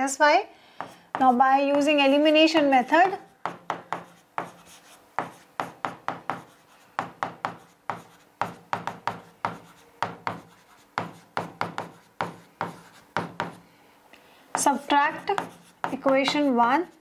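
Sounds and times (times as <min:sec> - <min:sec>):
pen tapping and scraping on screen: 0:00.8 - 0:13.6, 0:14.5 - 0:17.0.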